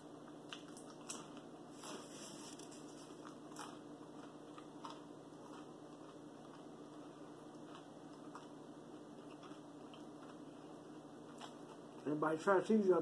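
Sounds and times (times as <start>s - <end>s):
person chewing food: 0.0s - 12.1s
steady low hum: 0.0s - 13.0s.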